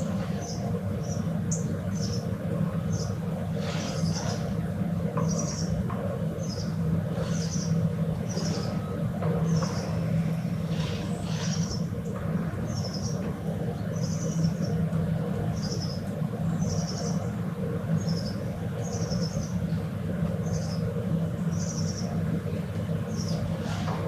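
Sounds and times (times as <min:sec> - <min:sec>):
small bird chirping trills: 0:00.0 - 0:04.5, 0:05.2 - 0:23.6
distant traffic hum: 0:00.0 - 0:24.0.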